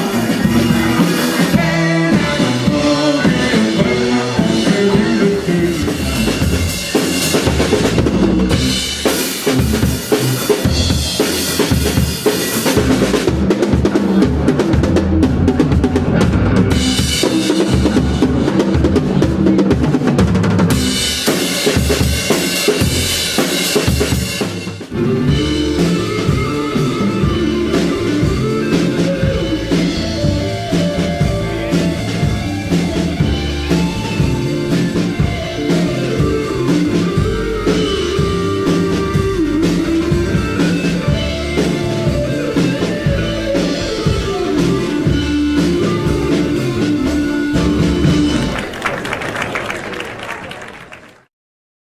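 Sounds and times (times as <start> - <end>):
electric guitar: 0.0 - 49.1
drum kit playing: 0.0 - 49.2
rock band music: 0.0 - 50.0.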